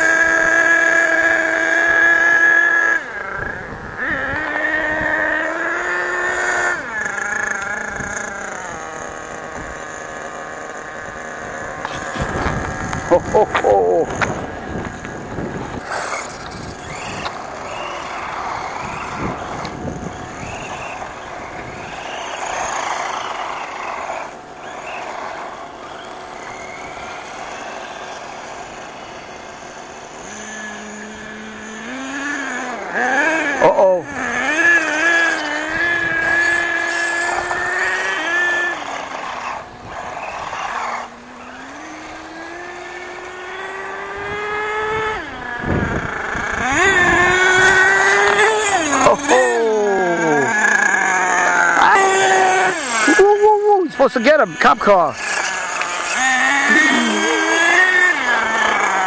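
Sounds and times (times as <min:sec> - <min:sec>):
small rc car engine buzzing: 0:00.0 - 0:59.0.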